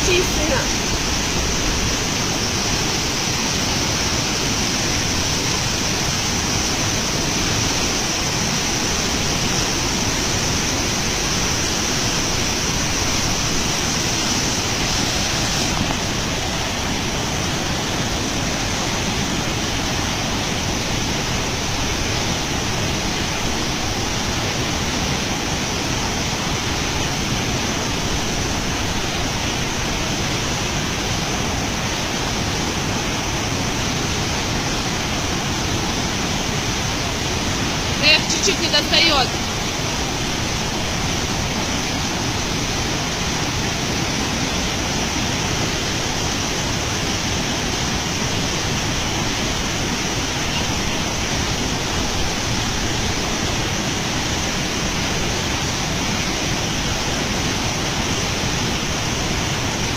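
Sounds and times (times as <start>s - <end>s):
rushing river water: 0.0s - 59.9s.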